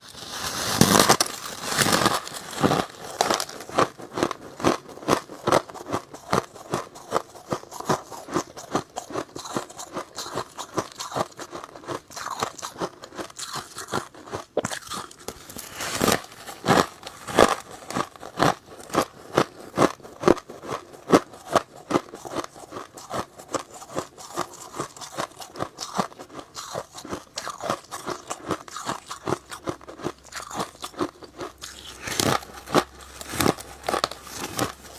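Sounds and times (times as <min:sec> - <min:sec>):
chewing crunchy frost: 0:00.0 - 0:34.9.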